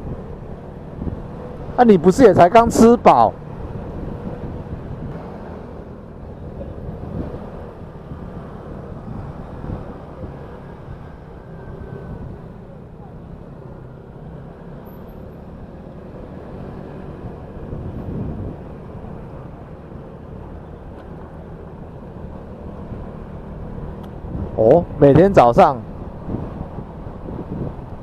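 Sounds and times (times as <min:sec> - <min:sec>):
motorcycle engine hum: 0:00.0 - 0:02.6, 0:03.3 - 0:28.0
road and wind noise: 0:00.0 - 0:28.0.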